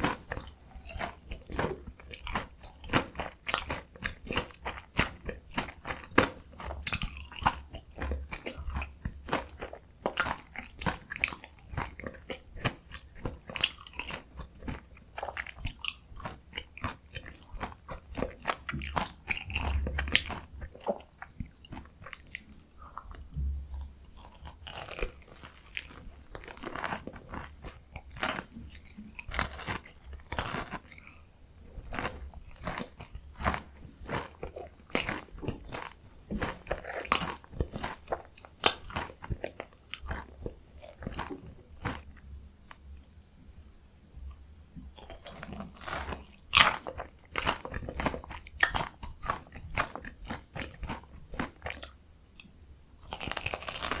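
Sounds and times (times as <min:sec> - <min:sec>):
crunching bites of fried food: 0:00.0 - 0:42.2, 0:44.9 - 0:52.0, 0:53.0 - 0:54.0
chewing: 0:00.0 - 0:43.2, 0:44.2 - 0:54.0.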